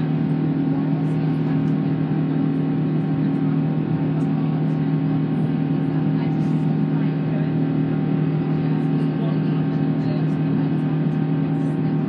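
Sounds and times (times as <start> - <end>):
jet engine cabin drone: 0.0 - 12.0.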